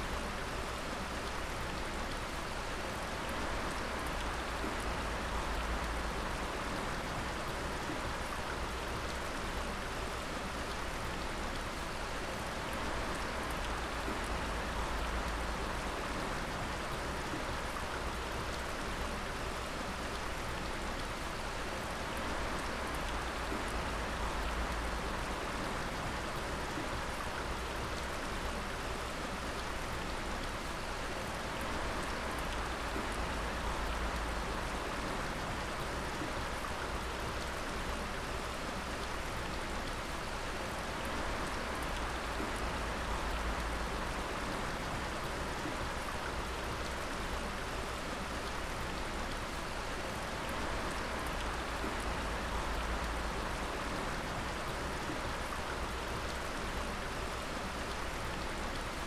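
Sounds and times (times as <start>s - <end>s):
running water rush: 0.0s - 59.0s.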